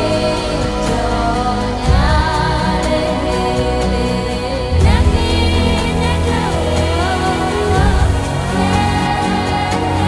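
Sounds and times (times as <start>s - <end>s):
background music with chords: 0.0s - 10.0s.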